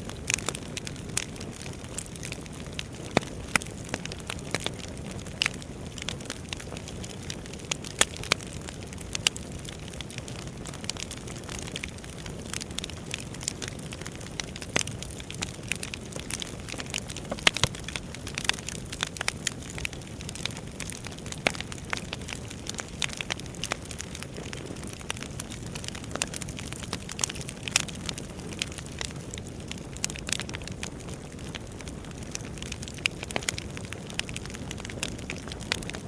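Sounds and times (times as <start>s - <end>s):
firewood crackling: 0.0s - 36.0s
low rumble of fire: 0.0s - 36.0s.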